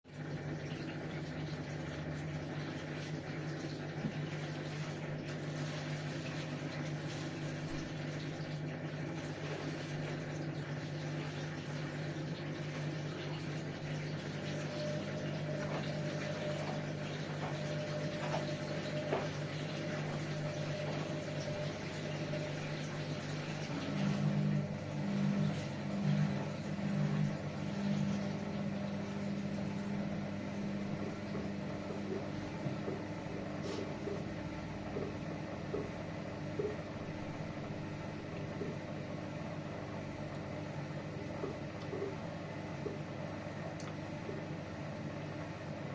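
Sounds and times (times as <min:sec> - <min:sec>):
washing machine motor hum: 0:00.0 - 0:45.9.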